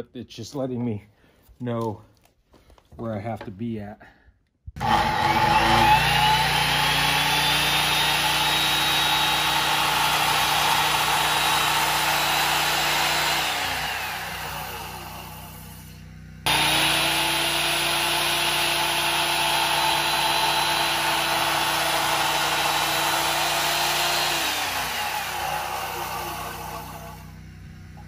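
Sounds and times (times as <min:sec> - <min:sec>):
circular saw cutting wood: 0:04.8 - 0:28.0.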